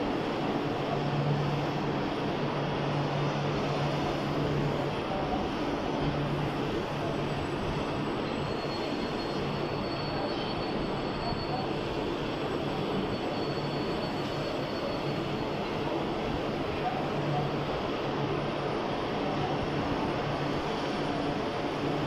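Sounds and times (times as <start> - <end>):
faint high whine: 0.0 - 22.0
train equipment low hum: 0.0 - 22.0.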